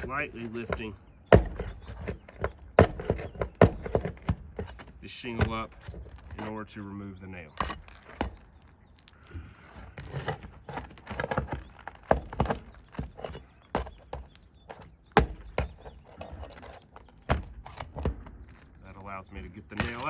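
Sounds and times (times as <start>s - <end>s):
metal tool scraping roof shingles: 0.0s - 6.9s, 7.5s - 20.0s.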